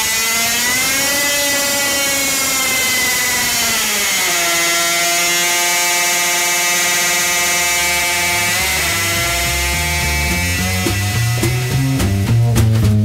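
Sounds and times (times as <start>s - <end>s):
two-stroke engine revving high: 0.0s - 12.5s.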